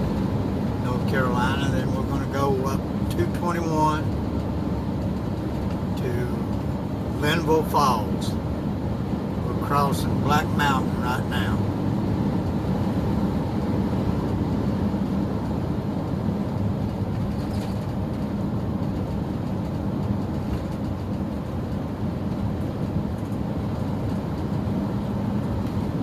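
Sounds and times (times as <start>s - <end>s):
car road and engine rumble: 0.0s - 26.0s
constant hum: 0.0s - 26.0s.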